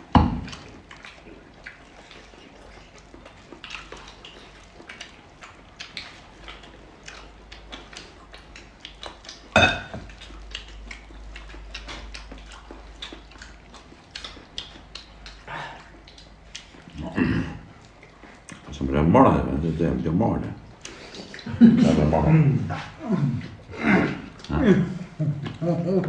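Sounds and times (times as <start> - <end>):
chewing smacks: 0.0 - 26.0.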